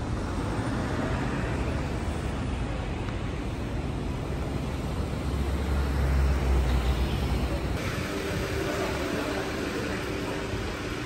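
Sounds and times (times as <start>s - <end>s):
passing vehicles: 0.0s - 11.0s.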